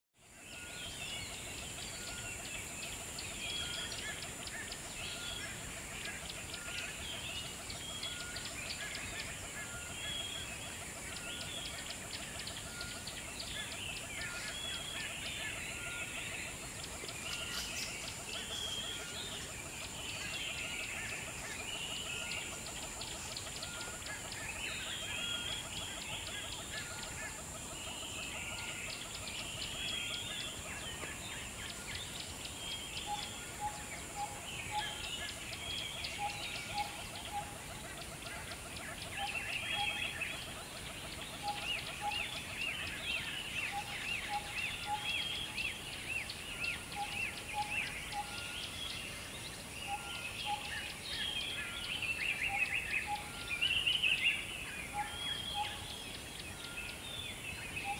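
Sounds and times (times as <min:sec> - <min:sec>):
steady high hiss: 0:00.2 - 0:57.9
birds chirping and calling: 0:00.3 - 0:57.9.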